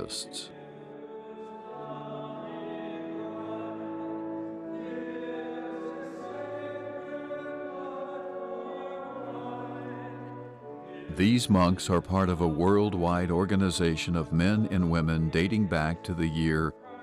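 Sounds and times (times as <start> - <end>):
choir singing sacred music: 0.0 - 17.0.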